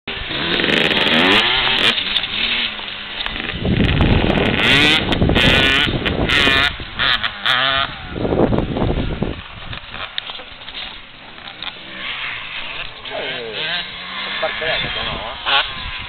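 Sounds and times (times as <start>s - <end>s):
motocross bike engine revving: 0.1s - 16.0s.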